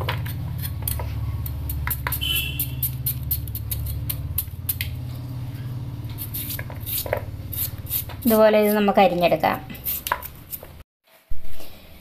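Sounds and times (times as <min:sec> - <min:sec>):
knife chopping vegetable: 0:00.0 - 0:05.1, 0:06.0 - 0:10.8.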